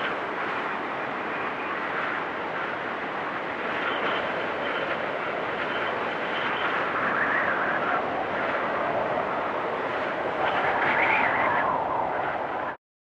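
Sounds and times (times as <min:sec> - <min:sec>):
wind rushing with whistling gusts: 0:00.0 - 0:12.8.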